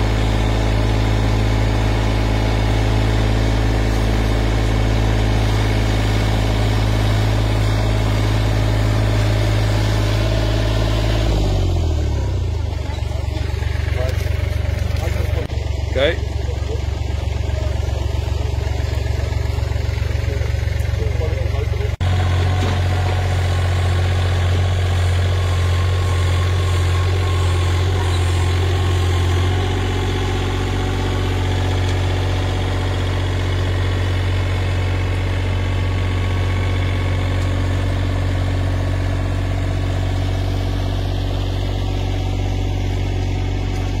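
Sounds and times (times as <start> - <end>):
skid steer engine running: 0.0 - 44.0.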